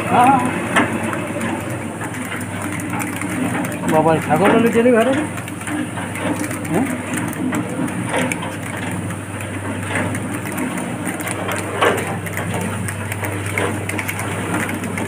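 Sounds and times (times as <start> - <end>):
dry snacks rattling in mesh drum: 0.0 - 15.0
machine motor hum: 0.0 - 15.0.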